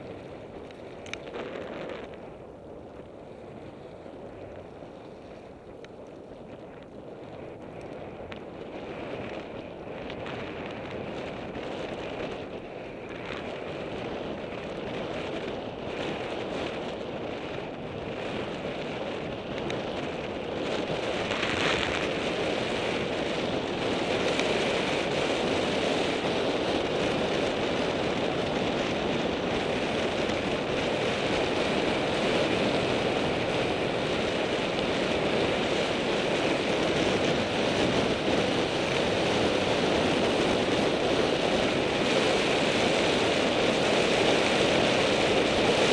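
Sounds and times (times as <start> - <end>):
tyre road noise on asphalt: 0.0 - 45.9
wind rushing over microphone: 0.0 - 45.9.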